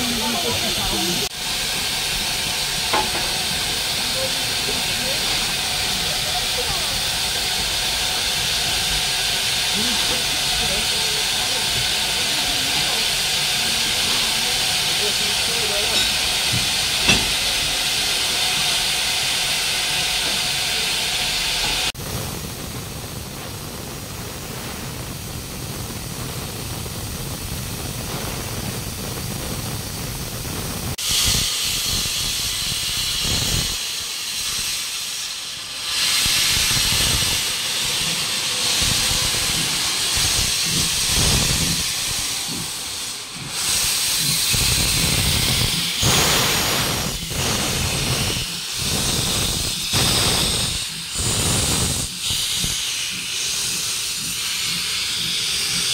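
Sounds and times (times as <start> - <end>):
steam locomotive hissing steam: 0.0 - 55.9.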